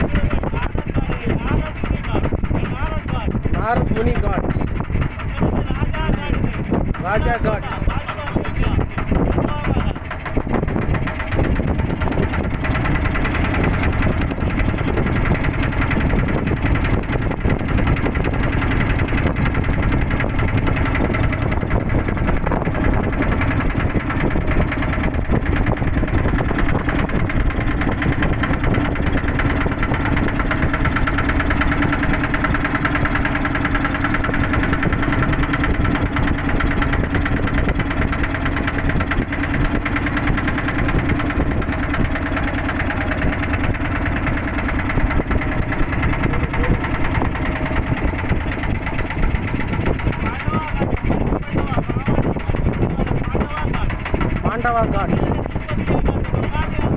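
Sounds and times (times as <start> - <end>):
motorboat engine running: 0.0 - 56.9.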